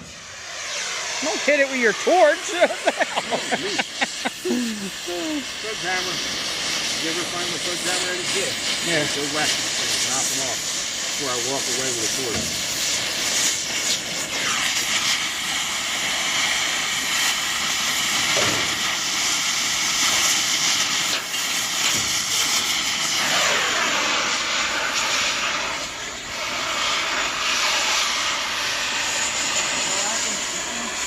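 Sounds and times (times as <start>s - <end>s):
cutting torch hissing: 0.0s - 31.0s.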